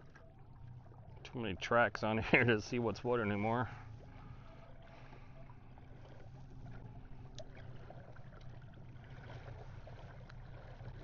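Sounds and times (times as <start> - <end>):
low steady hum: 0.0 - 11.0
water lapping against kayak hull: 0.0 - 11.0.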